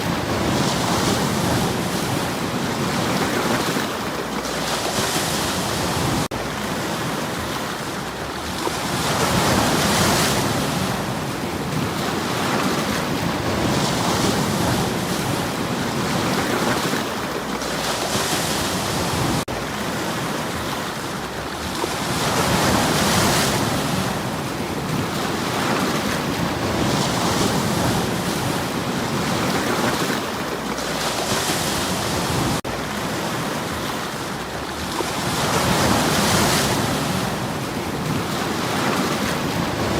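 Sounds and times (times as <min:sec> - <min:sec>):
waves washing against stones: 0:00.0 - 0:39.9.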